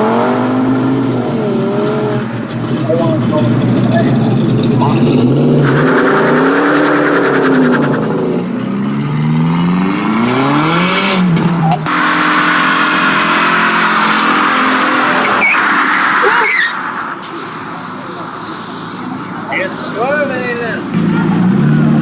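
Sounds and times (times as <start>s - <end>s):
modified car engine revving: 0.0s - 22.0s.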